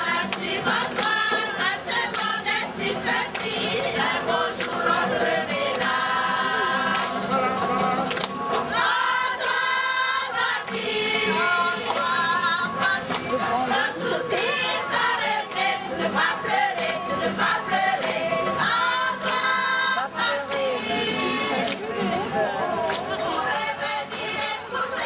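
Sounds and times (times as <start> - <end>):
group singing in harmony: 0.0 - 25.0
strummed guitars: 0.0 - 25.0.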